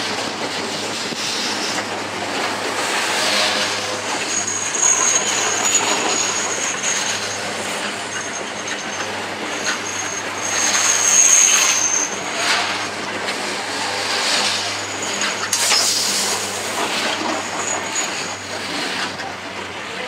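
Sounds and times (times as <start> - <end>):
train rolling noise: 0.0 - 20.0
high wheel squeal: 1.1 - 19.4.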